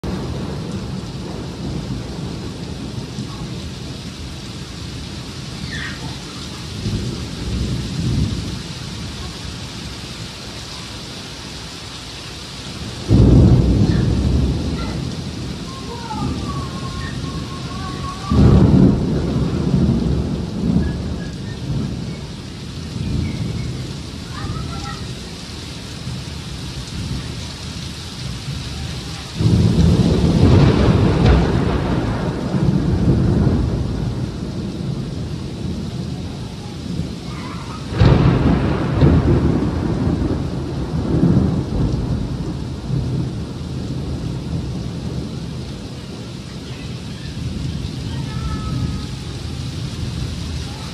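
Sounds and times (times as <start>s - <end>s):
heavy rain pouring: 0.0s - 50.9s
thunder rumbling: 0.0s - 50.9s.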